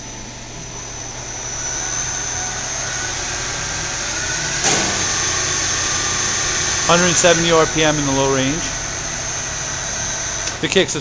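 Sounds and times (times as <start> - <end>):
lathe hum and high whine: 0.0 - 11.0.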